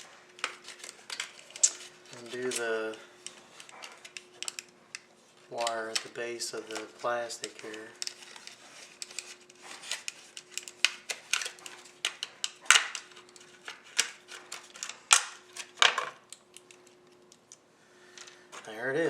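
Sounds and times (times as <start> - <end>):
plastic packaging crackling: 0.0 - 17.3.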